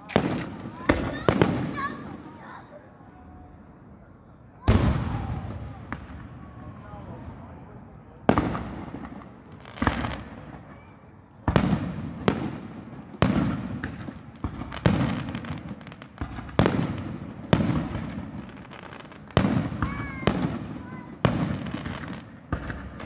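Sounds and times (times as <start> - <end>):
firework shells bursting with booms: 0.0 - 2.3, 4.6 - 6.8, 8.2 - 10.8, 11.4 - 23.0
rolling echo: 0.0 - 23.0.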